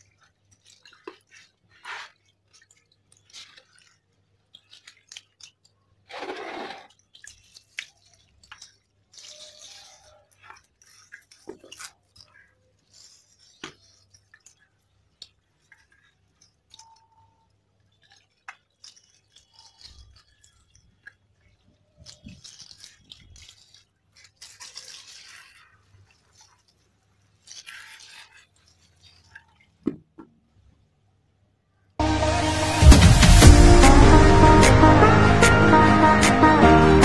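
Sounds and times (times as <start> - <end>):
scrubbing and rubbing: 0.0 - 31.0.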